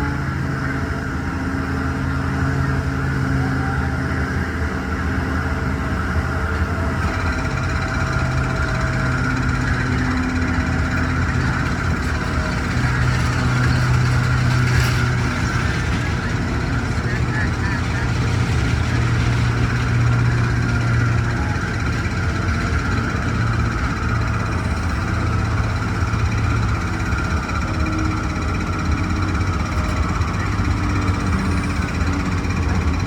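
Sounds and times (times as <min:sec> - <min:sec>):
carnival ride machinery droning: 0:00.0 - 0:33.0.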